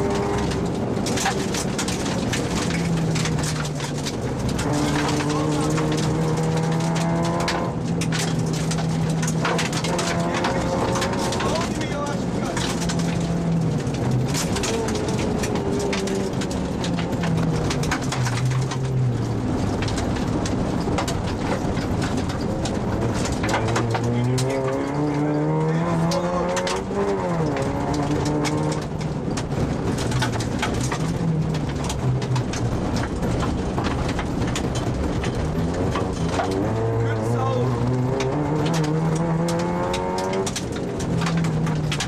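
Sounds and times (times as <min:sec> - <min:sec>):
car engine revving: 0:00.0 - 0:42.0
gravel clattering against car underside: 0:00.0 - 0:42.0.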